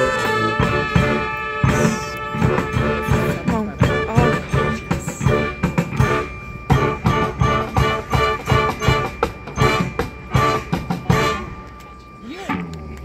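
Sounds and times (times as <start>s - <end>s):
regular drum beat: 0.0s - 11.5s
marching band playing: 0.0s - 12.8s
horns holding notes: 0.0s - 13.0s.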